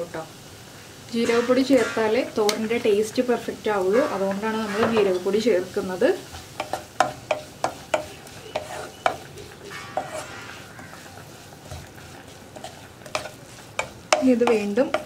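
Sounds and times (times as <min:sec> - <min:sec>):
faint sizzle: 0:00.0 - 0:15.0
wooden spatula scraping a pan: 0:01.1 - 0:03.0, 0:03.7 - 0:15.0.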